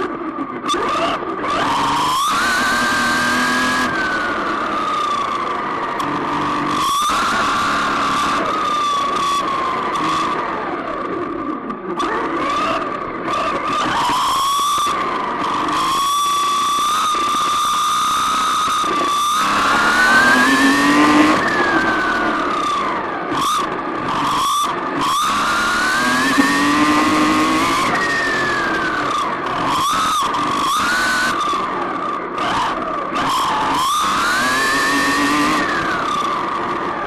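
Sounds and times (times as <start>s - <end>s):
radio-controlled car motor whining: 0.0s - 37.0s.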